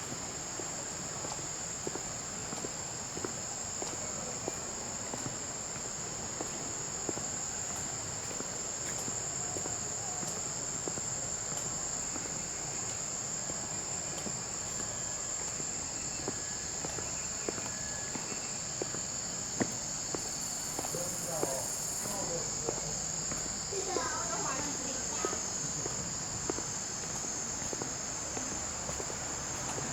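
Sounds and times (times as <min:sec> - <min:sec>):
shrill insect chorus: 0:00.0 - 0:29.9.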